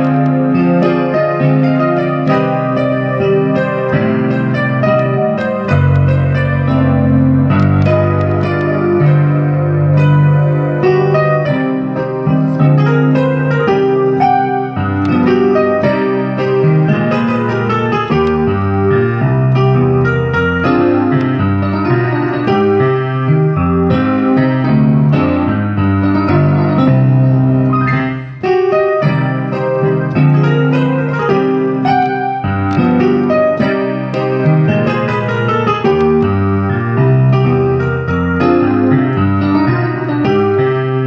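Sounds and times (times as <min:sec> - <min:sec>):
electronic keyboard chords: 0:00.0 - 0:41.0.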